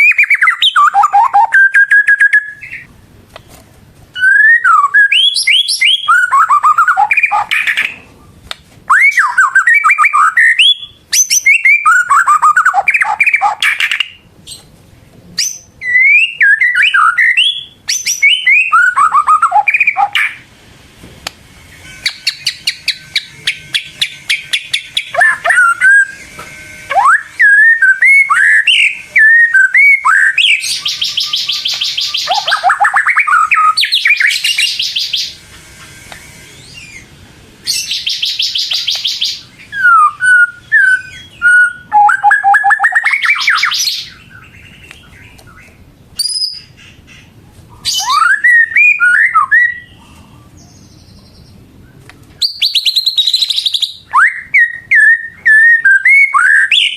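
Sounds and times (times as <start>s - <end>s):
bird singing whistles and trills: 0.0s - 2.9s, 4.2s - 8.0s, 8.9s - 14.7s, 15.4s - 20.4s, 22.0s - 26.3s, 26.9s - 35.4s, 37.7s - 46.9s, 47.8s - 50.0s, 50.6s - 56.9s.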